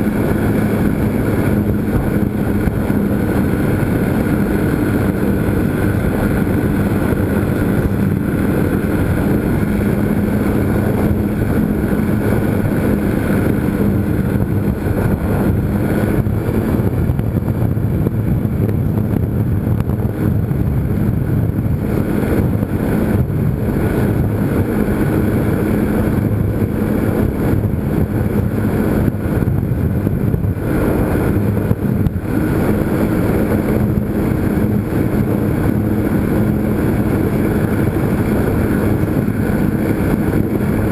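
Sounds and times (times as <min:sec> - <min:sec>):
model airplane motor droning: 0:00.0 - 0:40.9.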